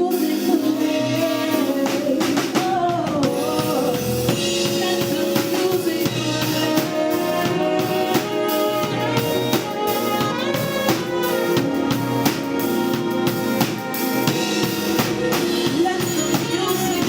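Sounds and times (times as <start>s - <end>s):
drum kit groove: 0.0s - 17.0s
person singing: 0.0s - 17.0s
soul-jazz band playing: 0.0s - 17.0s.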